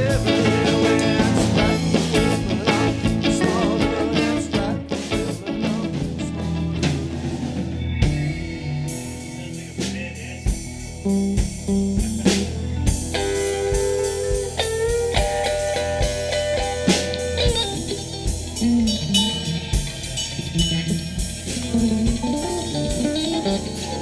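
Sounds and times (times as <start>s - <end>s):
bass guitar: 0.0s - 24.0s
drum kit steady beat: 0.0s - 24.0s
electric guitar with bent notes: 0.0s - 24.0s.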